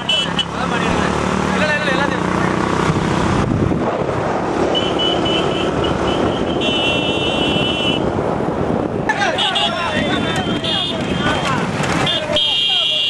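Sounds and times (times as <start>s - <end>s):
motorcycle engine: 0.0s - 13.0s
rushing wind: 0.0s - 13.0s.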